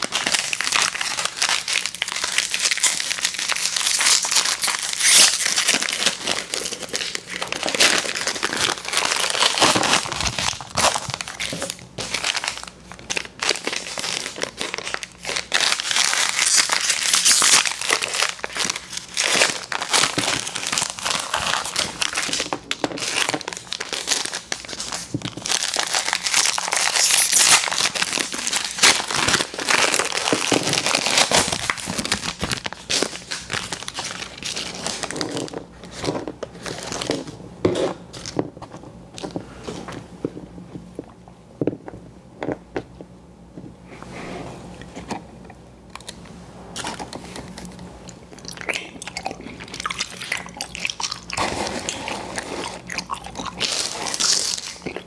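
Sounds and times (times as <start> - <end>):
plastic wrappers crinkling: 0.0 - 38.5, 46.0 - 55.0.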